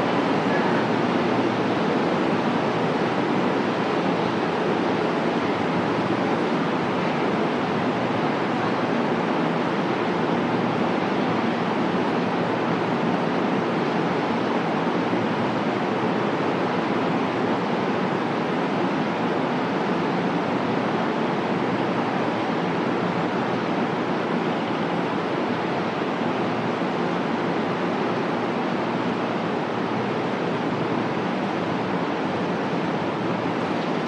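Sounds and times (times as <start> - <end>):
railway platform ambience: 0.0 - 34.0.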